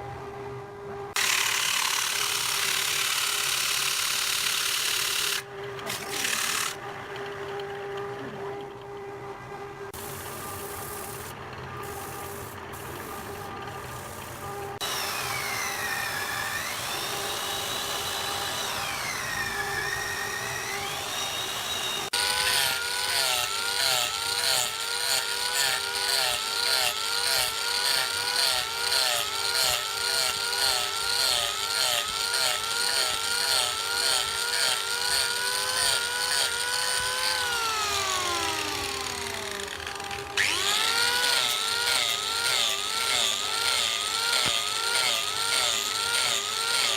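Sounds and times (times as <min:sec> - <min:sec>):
lathe motors whining: 0:00.0 - 0:46.9
steady noisy bed: 0:00.0 - 0:46.9.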